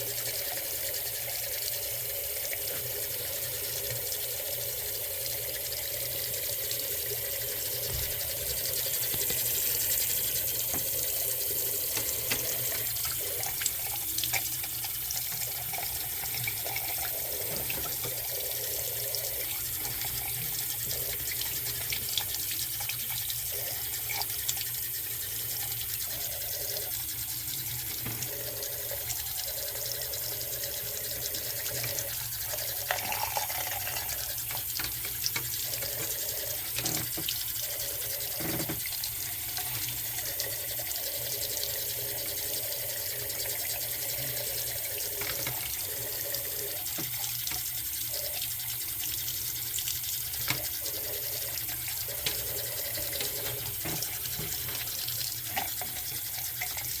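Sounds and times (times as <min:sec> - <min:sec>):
faucet running into sink: 0:00.0 - 0:57.0.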